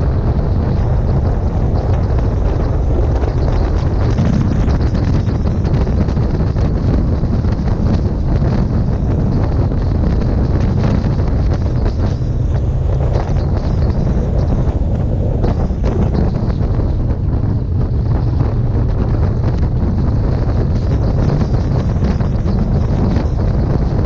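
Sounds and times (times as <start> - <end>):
motorcycle ride rumble: 0.0 - 24.0
wind rushing over microphone: 0.0 - 24.0.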